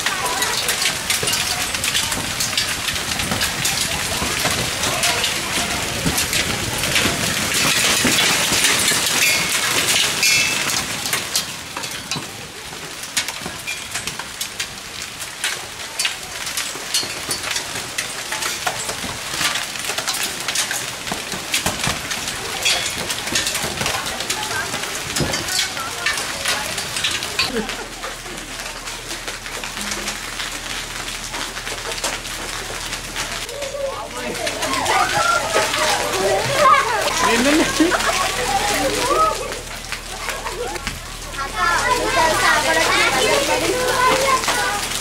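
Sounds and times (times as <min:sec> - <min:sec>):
hail and rain pelting: 0:00.0 - 0:45.0.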